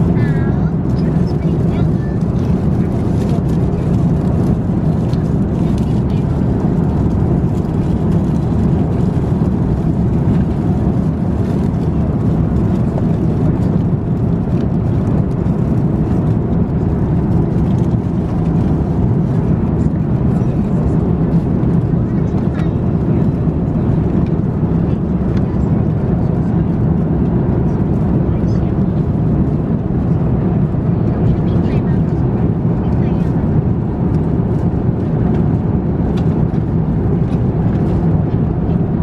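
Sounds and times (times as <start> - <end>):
airliner cabin noise: 0.0 - 39.0.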